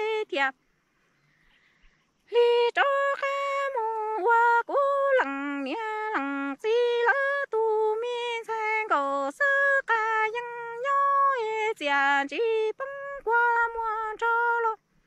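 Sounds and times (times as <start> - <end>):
woman singing unaccompanied: 0.0 - 0.6, 2.3 - 15.0.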